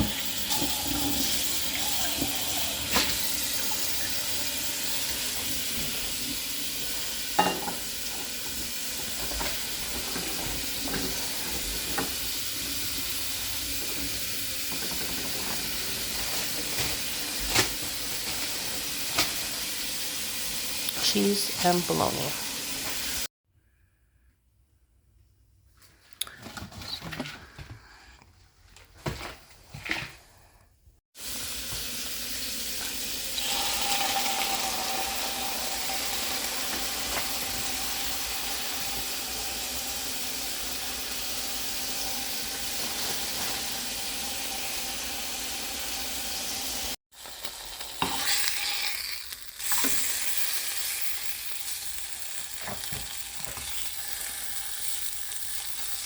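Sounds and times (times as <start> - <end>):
food sizzling in frying pan: 0.0 - 23.3, 31.2 - 56.0.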